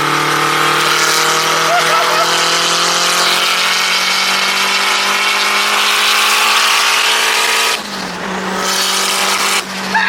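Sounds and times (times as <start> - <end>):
car engine running hard: 0.0 - 10.0.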